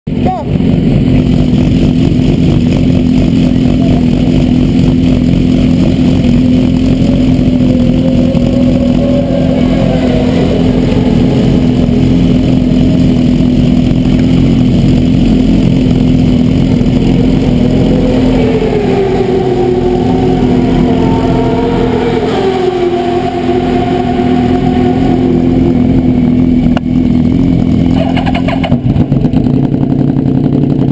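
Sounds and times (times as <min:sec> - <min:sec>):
motorcycle engine idling: 0:00.1 - 0:30.9
higher wavering engine note: 0:00.6 - 0:30.9.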